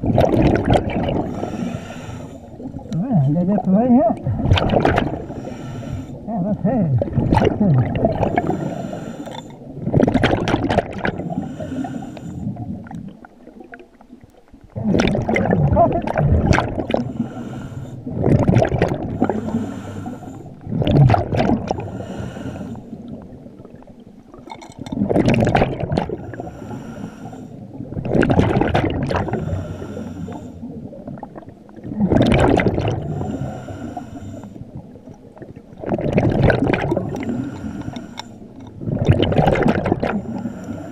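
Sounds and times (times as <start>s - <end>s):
bubbly gurgling of exhaled bubbles: 0.0s - 22.3s, 22.9s - 27.0s, 27.6s - 40.9s.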